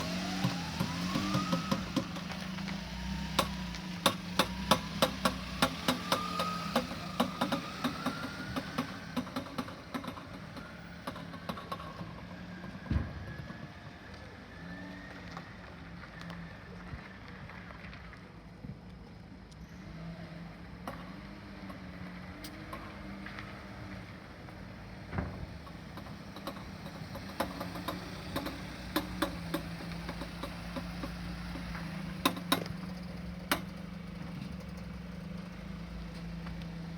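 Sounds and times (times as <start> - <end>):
car running hum: 0.0 - 36.9.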